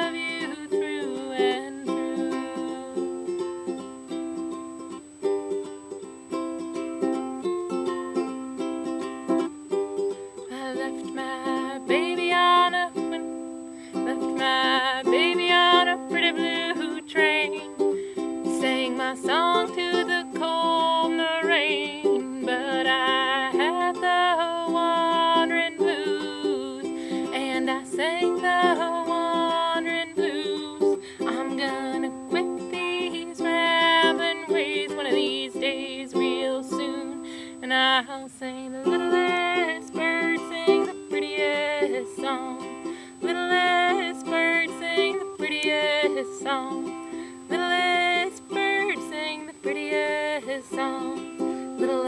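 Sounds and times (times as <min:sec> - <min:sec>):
ukulele strumming: 0:00.0 - 0:52.0.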